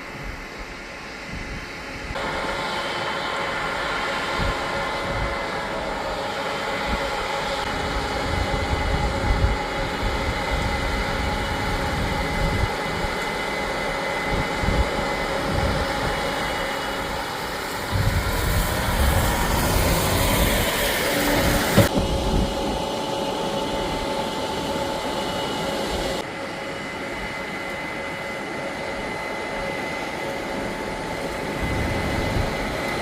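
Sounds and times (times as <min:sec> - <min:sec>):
machinery engine droning: 0:00.0 - 0:33.0.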